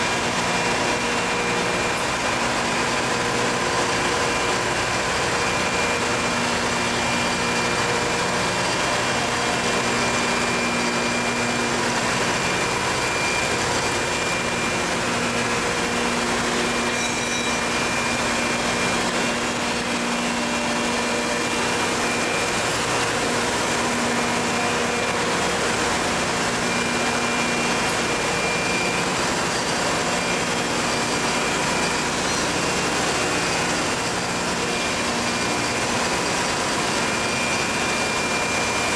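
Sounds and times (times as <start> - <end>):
machinery running with hum: 0.0 - 38.9.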